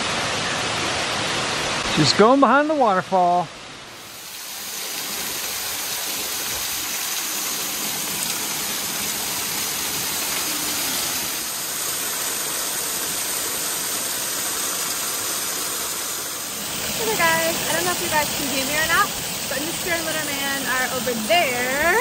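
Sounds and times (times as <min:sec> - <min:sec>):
waterfall crashing onto rocks: 0:00.0 - 0:22.0.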